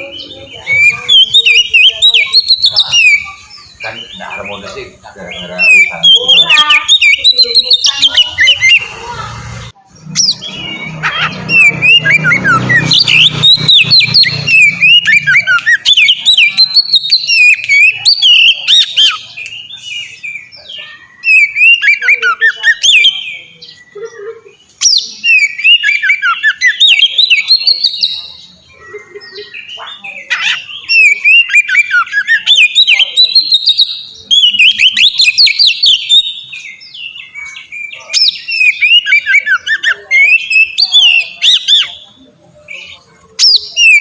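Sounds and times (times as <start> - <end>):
bird singing whistled phrases: 0.0 - 8.9, 10.1 - 24.1, 24.8 - 44.0.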